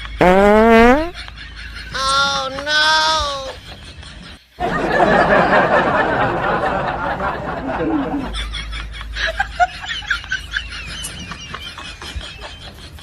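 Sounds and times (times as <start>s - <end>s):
laughter: 1.2s - 2.4s, 3.4s - 13.0s.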